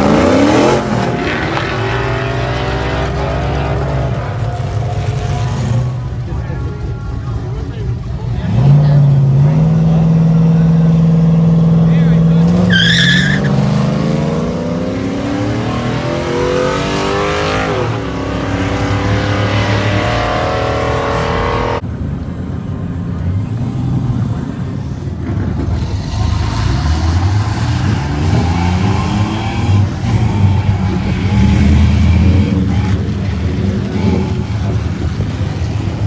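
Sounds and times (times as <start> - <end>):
racing engine at full throttle: 0.0 - 21.8, 23.5 - 36.0.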